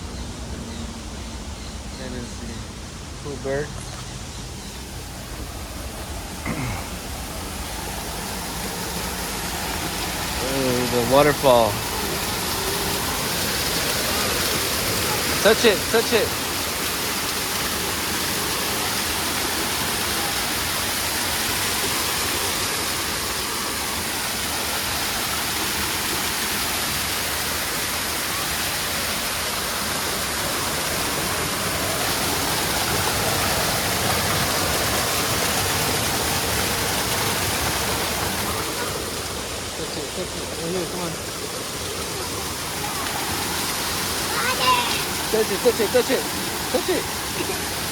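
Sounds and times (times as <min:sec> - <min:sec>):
waterfall pouring and splashing: 0:01.2 - 0:47.9.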